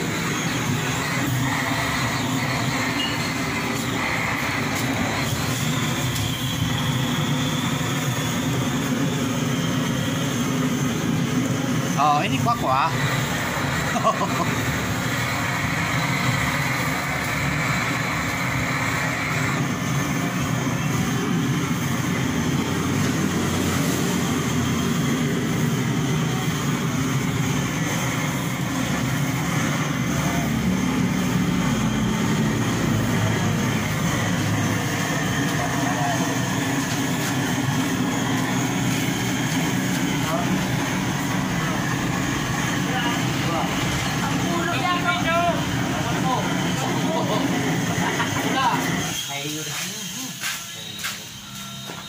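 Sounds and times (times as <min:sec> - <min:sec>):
blowtorch burning: 0:00.0 - 0:52.0.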